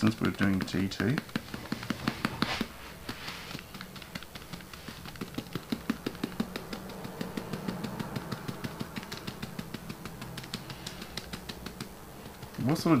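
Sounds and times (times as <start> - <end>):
fingers tapping on spreader: 0.0 - 13.0.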